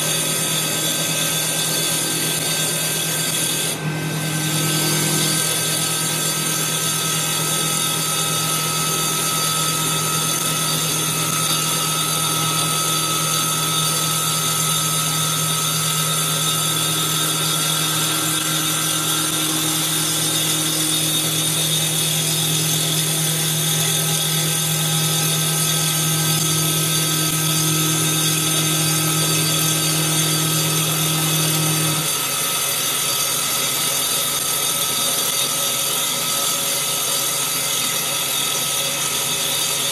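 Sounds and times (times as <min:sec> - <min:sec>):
lathe motor hum and whine: 0:00.0 - 0:39.9.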